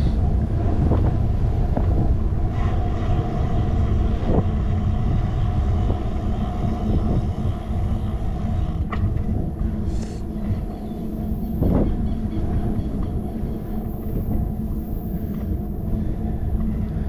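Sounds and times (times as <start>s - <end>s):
road vibration: 0.0s - 17.0s
wind buffeting microphone: 0.0s - 17.0s.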